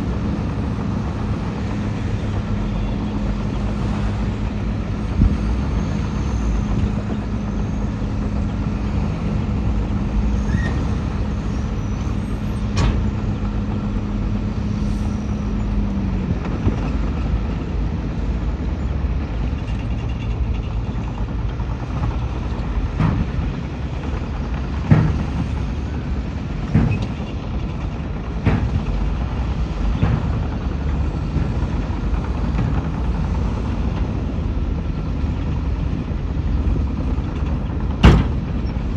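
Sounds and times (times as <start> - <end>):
diesel machinery engine running: 0.0 - 38.9.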